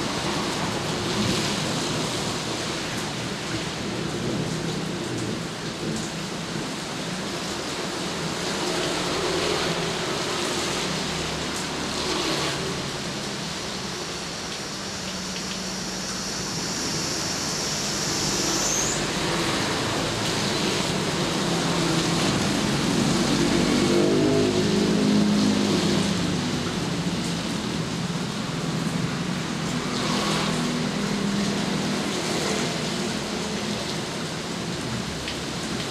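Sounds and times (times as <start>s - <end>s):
steady rain: 0.0s - 35.9s
traffic on wet road: 0.0s - 35.9s.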